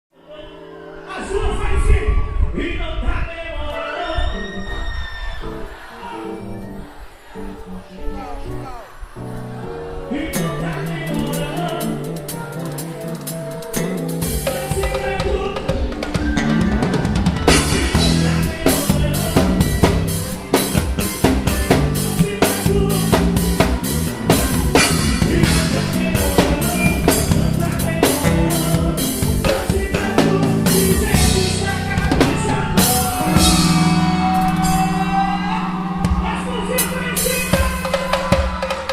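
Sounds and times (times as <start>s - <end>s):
band playing gospel song: 0.2s - 38.9s.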